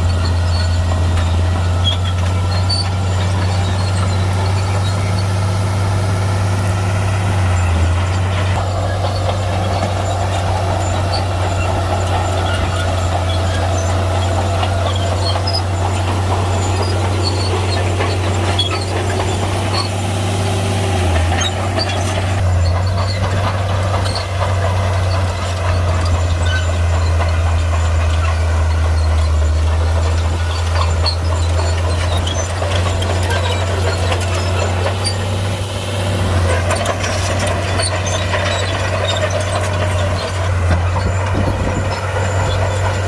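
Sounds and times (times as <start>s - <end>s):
bulldozer diesel engine droning: 0.0s - 43.0s.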